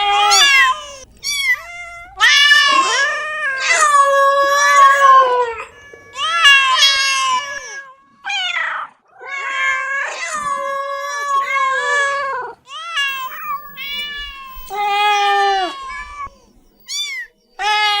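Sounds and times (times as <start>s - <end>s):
cat meowing: 0.0s - 18.0s.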